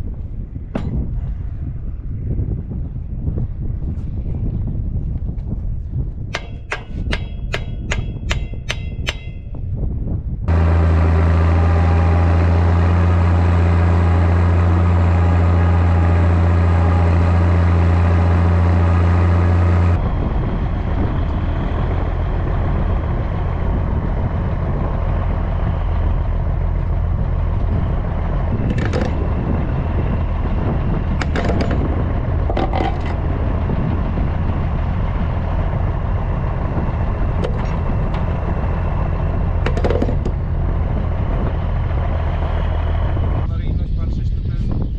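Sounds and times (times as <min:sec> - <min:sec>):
tractor diesel engine running: 0:06.3 - 0:09.7, 0:10.4 - 0:44.9.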